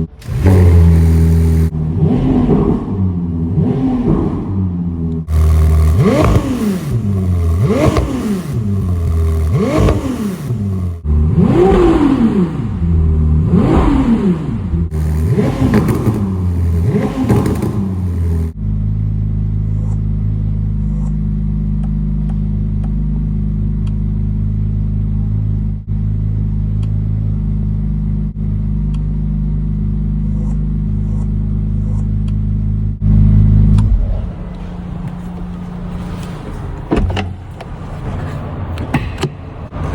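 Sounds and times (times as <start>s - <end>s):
car engine revving: 0.0s - 37.9s
car engine idling: 0.0s - 38.4s.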